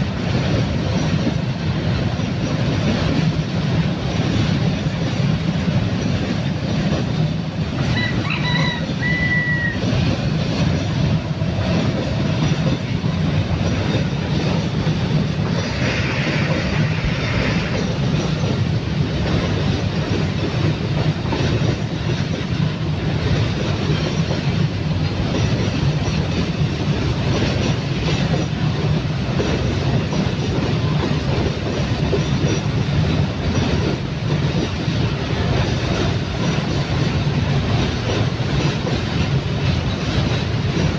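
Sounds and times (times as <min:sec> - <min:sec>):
train wheels clacking over rail joints: 0:00.0 - 0:40.9.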